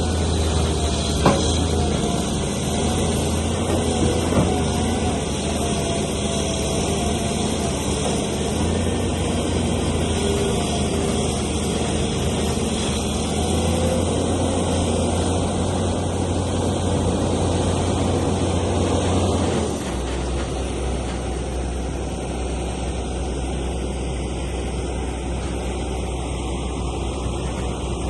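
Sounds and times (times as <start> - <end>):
heavy machinery engine running: 0.0 - 28.0.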